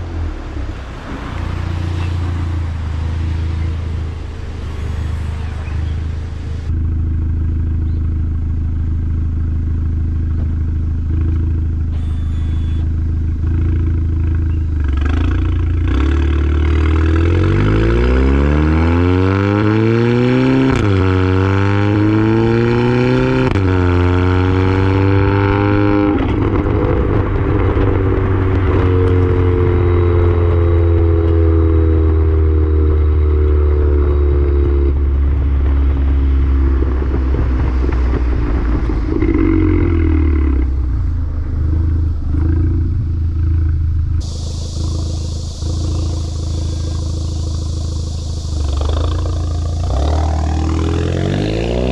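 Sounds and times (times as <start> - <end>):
car engine and exhaust: 0.0 - 51.9.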